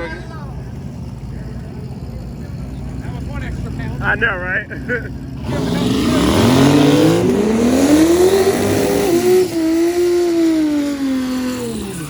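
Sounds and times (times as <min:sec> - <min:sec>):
drag car engine at full throttle: 0:00.0 - 0:12.0.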